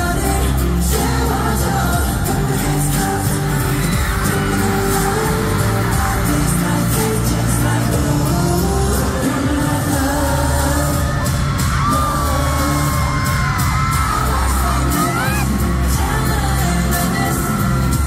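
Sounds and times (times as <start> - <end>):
crowd screaming: 0.0 - 8.2, 8.8 - 18.0
pop song with heavy bass beat: 0.0 - 18.0.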